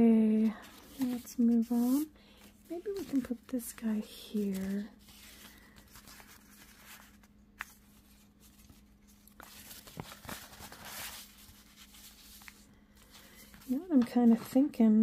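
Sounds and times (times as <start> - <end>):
paper rustling: 0.4 - 14.6.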